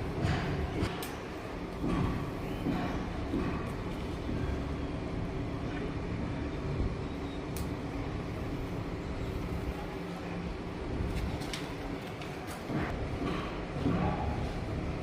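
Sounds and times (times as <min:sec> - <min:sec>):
low mechanical engine rumble: 0:00.0 - 0:15.0.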